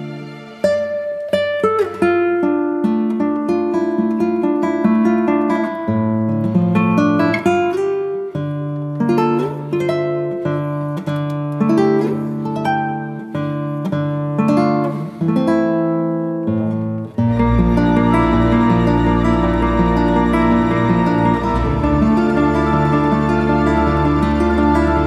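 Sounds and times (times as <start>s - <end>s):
plucked acoustic guitar melody: 0.0s - 25.0s.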